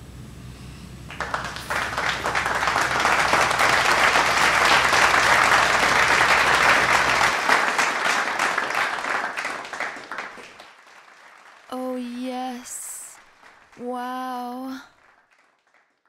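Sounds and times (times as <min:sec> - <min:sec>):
crowd clapping: 0:01.1 - 0:16.0.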